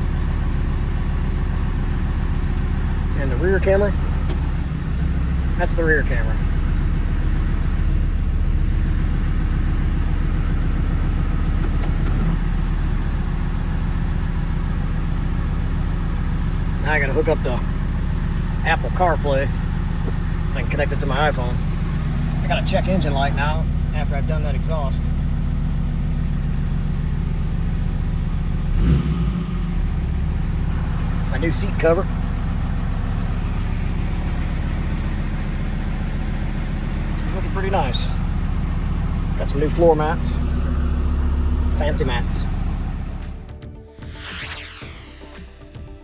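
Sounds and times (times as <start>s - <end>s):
diesel engine idling: 0.0s - 46.0s.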